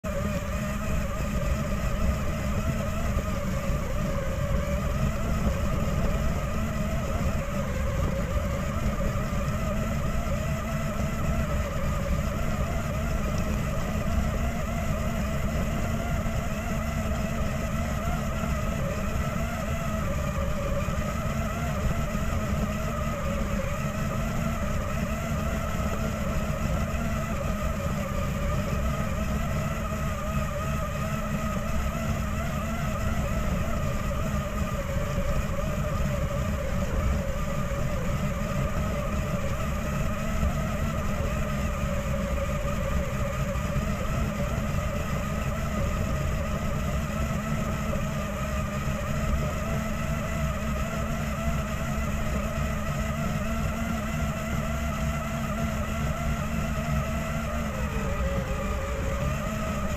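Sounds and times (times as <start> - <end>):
rc car motor whine: 0.1 - 59.9.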